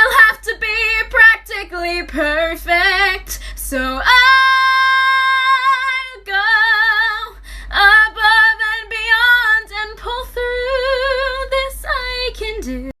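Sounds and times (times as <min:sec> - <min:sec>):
woman singing with vibrato: 0:00.0 - 0:13.0.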